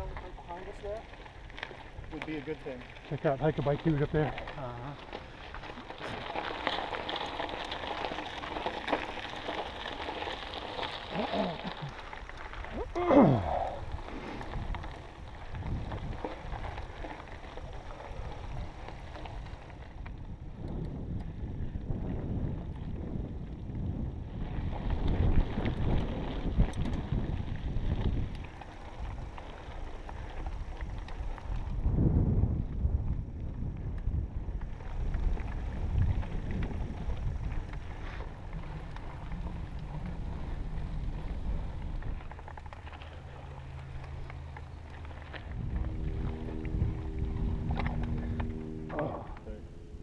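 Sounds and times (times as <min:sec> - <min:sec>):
bike rolling on dirt trail: 0:00.0 - 0:50.0
gravel ticks and bike rattle: 0:00.0 - 0:50.0
wind buffeting microphone: 0:00.0 - 0:50.0.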